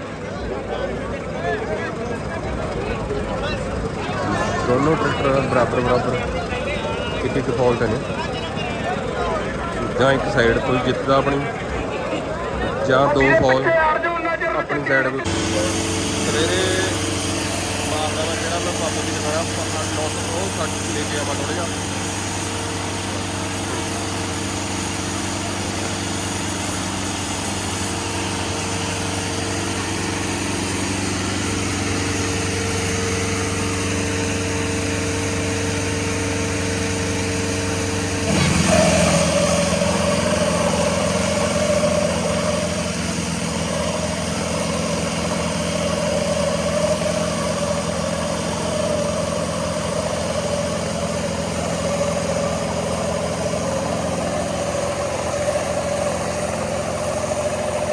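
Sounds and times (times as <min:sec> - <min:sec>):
tractor engines idling: 0:00.0 - 0:57.9.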